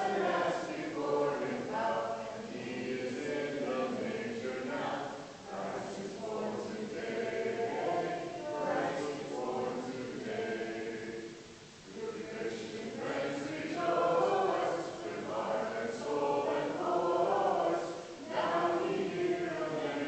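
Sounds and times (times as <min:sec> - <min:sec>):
congregation singing a carol: 0:00.0 - 0:20.0.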